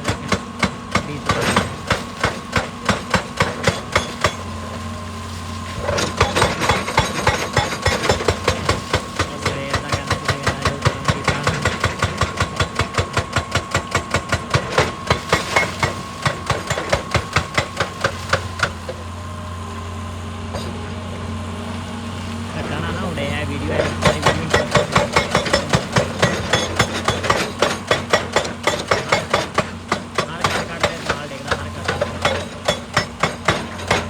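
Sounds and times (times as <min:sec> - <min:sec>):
hydraulic rock breaker hammering: 0:00.0 - 0:19.5, 0:22.5 - 0:34.0
diesel engine running: 0:00.0 - 0:34.0.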